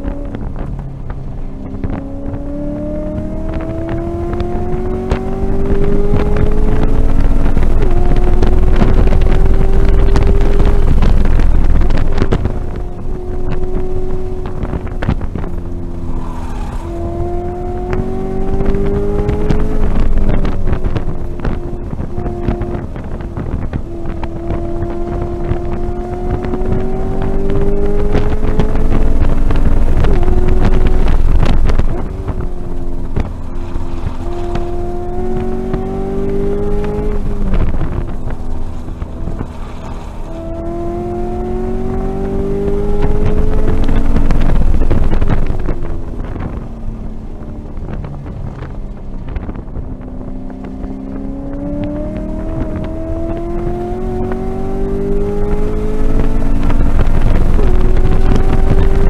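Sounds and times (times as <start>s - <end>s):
car engine revving from inside cabin: 0.0s - 46.7s, 47.7s - 59.0s.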